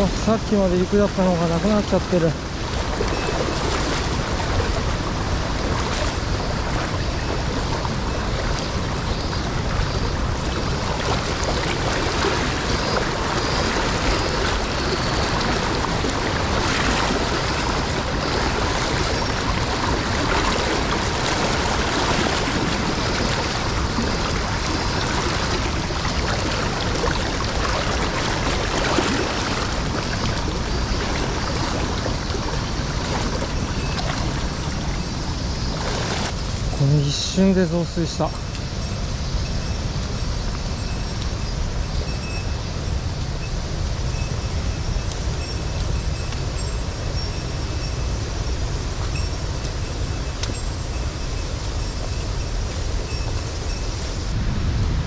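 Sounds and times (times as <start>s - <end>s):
rushing mountain stream: 0.0s - 55.0s.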